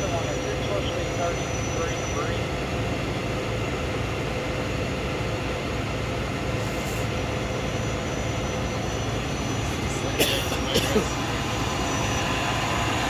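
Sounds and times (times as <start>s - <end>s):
diesel trucks idling: 0.0s - 13.0s.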